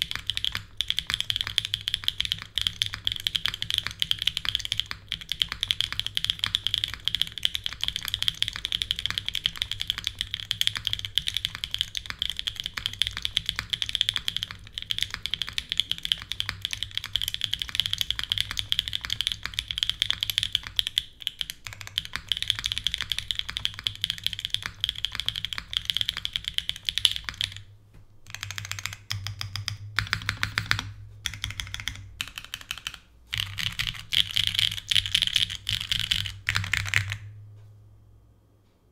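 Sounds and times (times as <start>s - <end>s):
mechanical keyboard typing: 0.0s - 27.7s, 28.3s - 37.3s.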